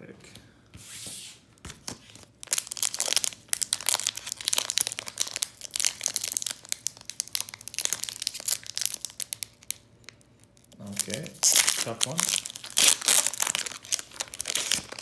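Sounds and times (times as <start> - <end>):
foil wrapper crinkling: 1.8 - 15.0.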